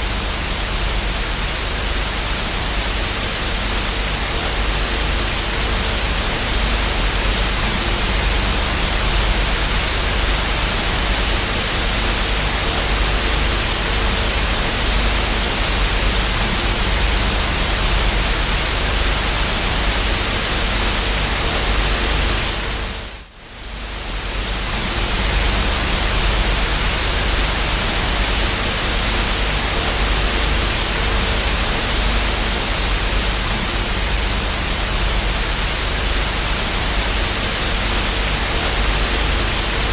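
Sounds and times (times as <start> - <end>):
faint low buzz: 0.0 - 39.9
television static hiss: 0.0 - 39.9.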